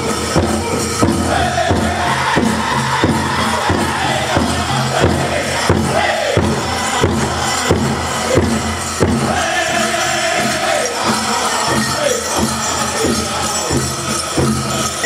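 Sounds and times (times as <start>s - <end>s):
group singing: 0.0s - 15.0s
large drum steady beat: 0.0s - 15.0s.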